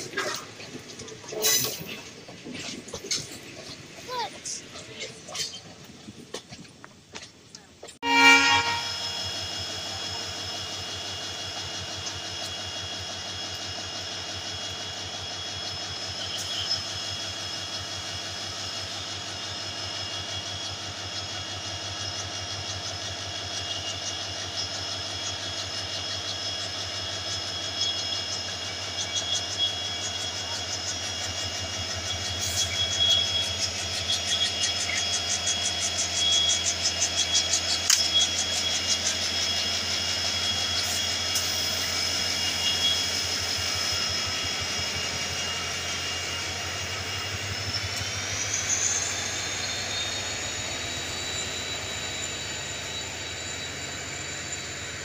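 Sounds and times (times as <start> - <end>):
diesel locomotive engine throbbing: 0.0 - 55.0.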